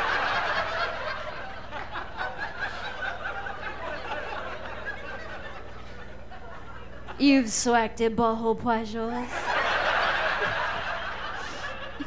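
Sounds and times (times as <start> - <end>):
audience laughing: 0.0 - 7.2, 9.2 - 12.0.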